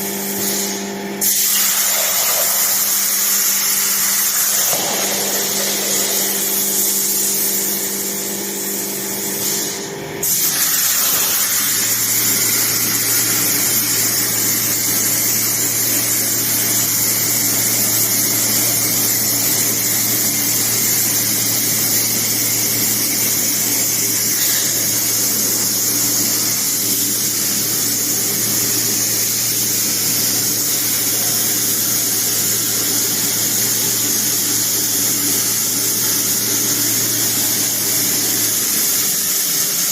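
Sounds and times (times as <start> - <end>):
plasma cutter hissing: 0.1 - 39.9.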